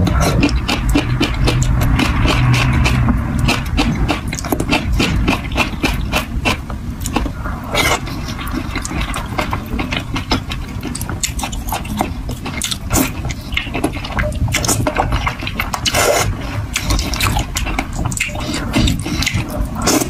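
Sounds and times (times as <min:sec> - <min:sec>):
slurping and chewing noodles: 0:00.0 - 0:20.0
steady low rumble: 0:00.0 - 0:20.0.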